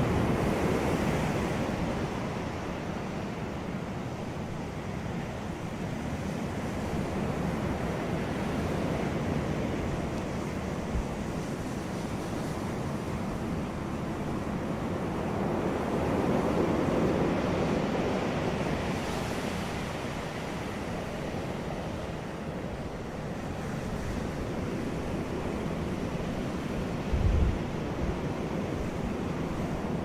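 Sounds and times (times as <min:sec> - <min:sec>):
sea waves washing onto beach: 0:00.0 - 0:30.0.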